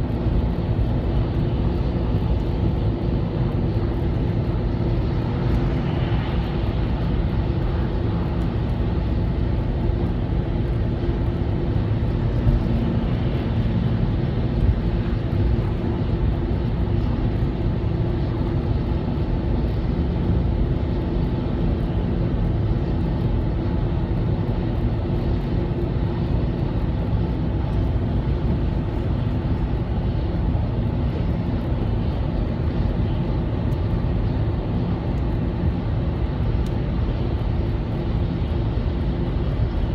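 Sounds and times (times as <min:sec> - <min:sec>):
vehicle driving at highway speed: 0:00.0 - 0:39.9.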